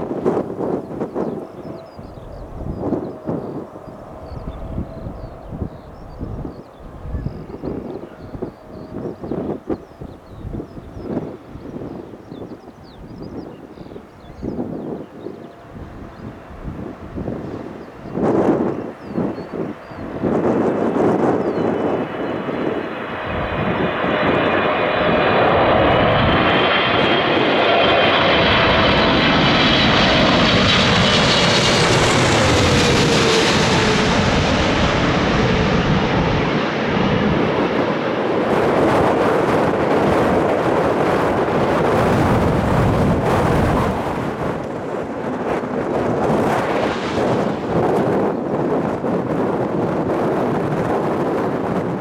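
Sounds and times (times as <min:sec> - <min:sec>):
jet airliner engine roar: 0:00.0 - 0:52.0
wind buffeting microphone: 0:00.0 - 0:52.0.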